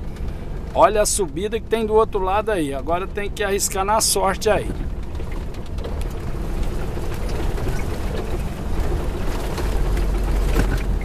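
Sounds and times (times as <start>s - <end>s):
knocks and rattles on rough road: 0.0s - 11.0s
truck engine rumble: 0.0s - 11.0s.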